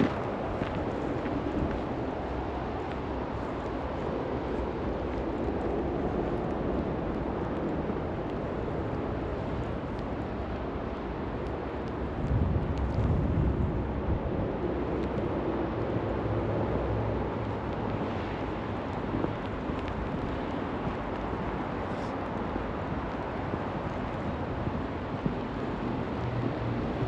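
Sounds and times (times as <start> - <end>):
wind noise with low rumble: 0.0 - 27.0.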